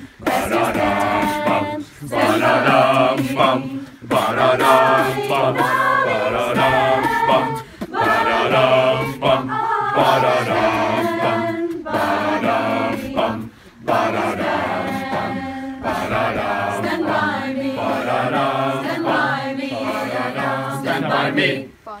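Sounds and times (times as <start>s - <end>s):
choir of young voices singing: 0.0s - 21.9s.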